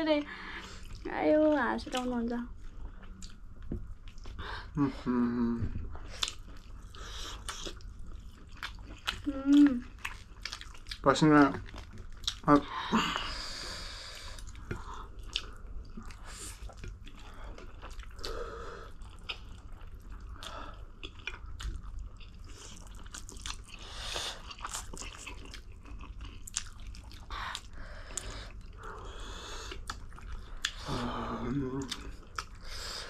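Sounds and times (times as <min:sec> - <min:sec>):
chewing and mouth smacks: 0:00.8 - 0:04.4, 0:05.9 - 0:12.6, 0:14.2 - 0:28.8, 0:29.6 - 0:30.9, 0:31.8 - 0:32.7.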